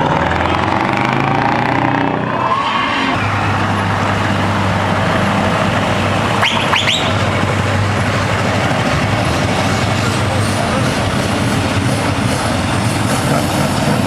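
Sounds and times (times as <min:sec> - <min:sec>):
diesel truck engine droning: 0:00.0 - 0:14.0.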